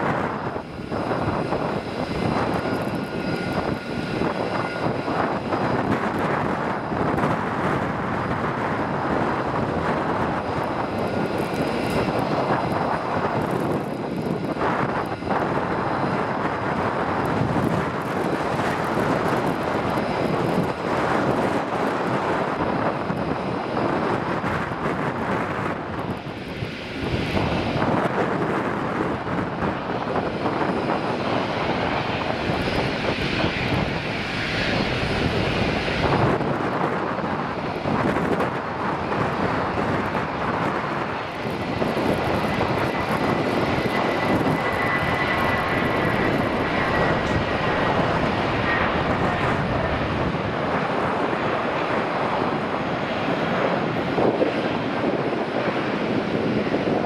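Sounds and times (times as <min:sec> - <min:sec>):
jet engines on runway: 0:00.0 - 0:57.0
turboprop engines on runway: 0:00.0 - 0:57.0.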